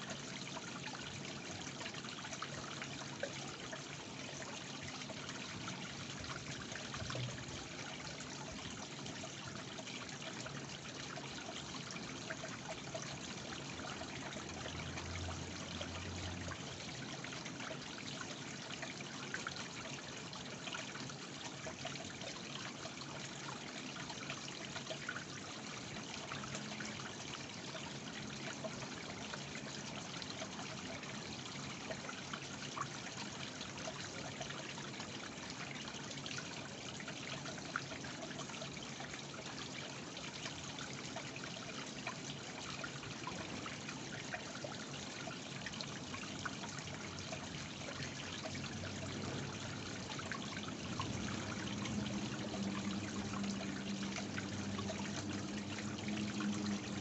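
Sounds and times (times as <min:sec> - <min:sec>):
small cascade splashing into pond: 0:00.0 - 0:57.0.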